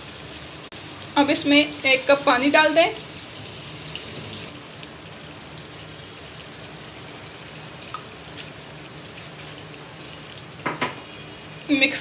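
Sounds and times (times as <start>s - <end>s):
water hissing in hot pan: 0.0s - 12.0s.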